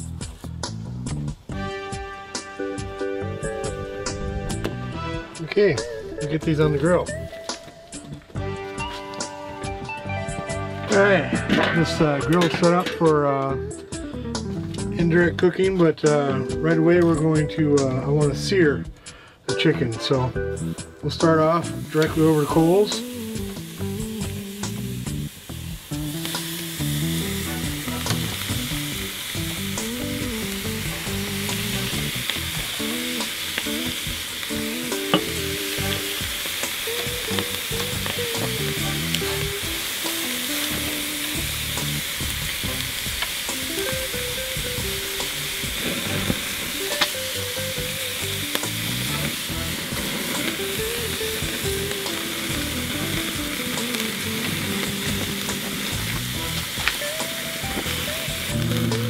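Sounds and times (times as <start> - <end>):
chicken sizzling on grill: 0.0 - 4.3, 10.4 - 15.0, 20.5 - 59.0.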